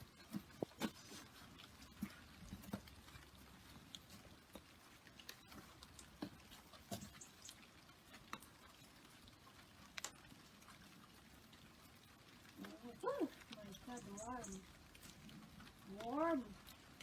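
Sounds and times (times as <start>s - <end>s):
soil rustling and clicking: 0.0s - 17.0s.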